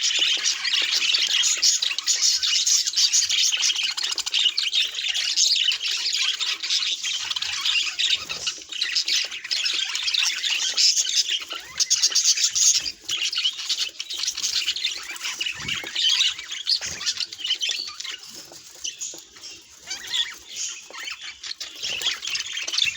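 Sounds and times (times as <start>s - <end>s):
budgerigars chattering: 0.0s - 22.9s.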